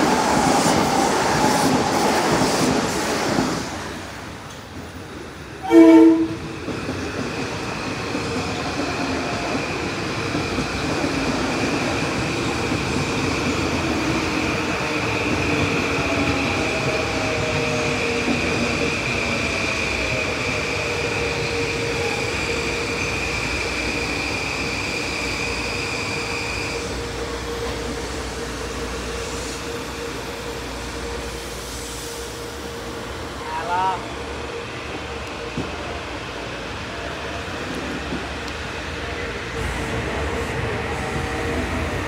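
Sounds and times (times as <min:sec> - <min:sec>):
electric train rumbling past: 0:00.0 - 0:42.0.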